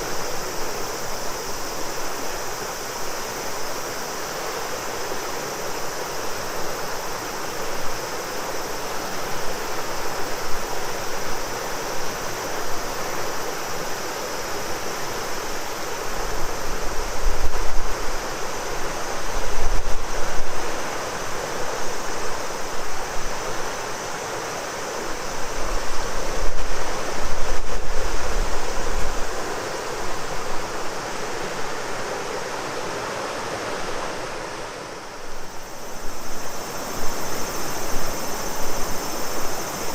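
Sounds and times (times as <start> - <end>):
cicadas singing: 0.0 - 39.9
river water rushing: 0.0 - 39.9.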